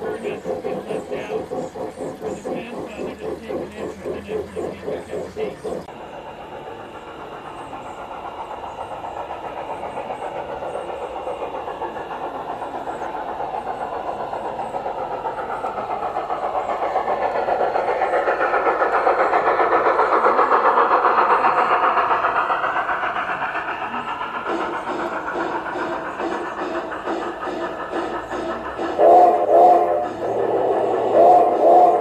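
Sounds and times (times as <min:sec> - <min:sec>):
model train wheels clattering: 0:00.0 - 0:05.9, 0:06.6 - 0:32.0.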